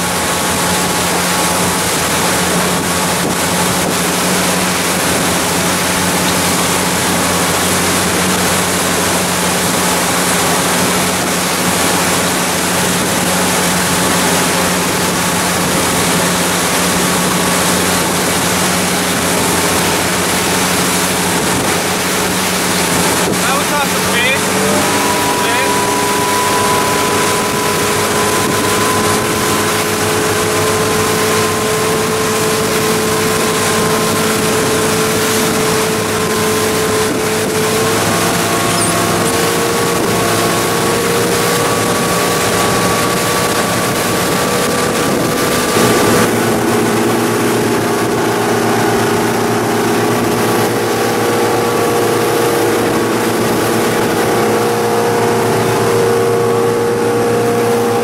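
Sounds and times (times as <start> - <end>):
boat engines running: 0.0 - 58.0
churning wake rushing: 0.0 - 58.0
wind: 0.0 - 58.0.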